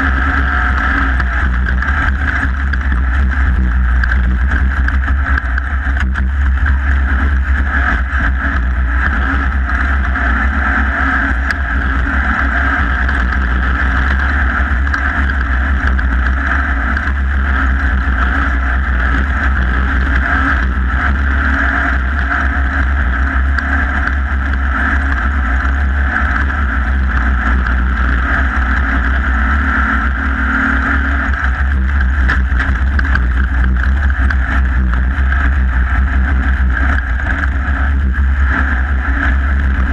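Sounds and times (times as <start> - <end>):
race vehicle engine running hard: 0.0 - 39.9.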